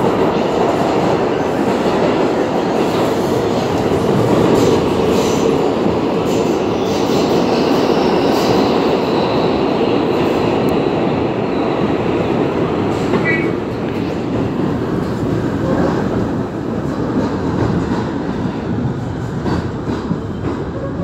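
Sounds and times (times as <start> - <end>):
subway wheels rumbling on rails: 0.0 - 21.0.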